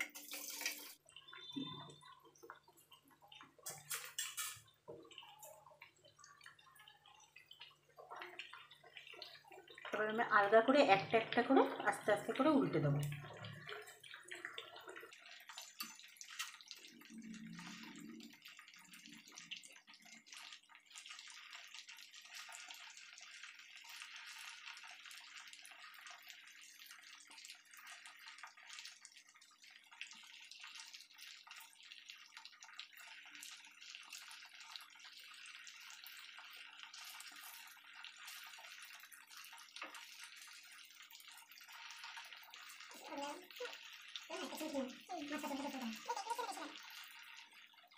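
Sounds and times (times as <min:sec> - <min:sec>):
chicken frying in oil: 0:00.0 - 0:47.9.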